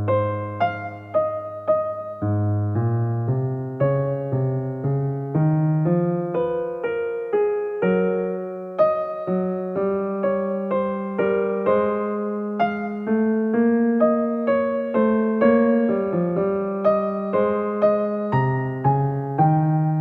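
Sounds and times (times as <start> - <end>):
soft piano-like keyboard music: 0.0 - 20.0.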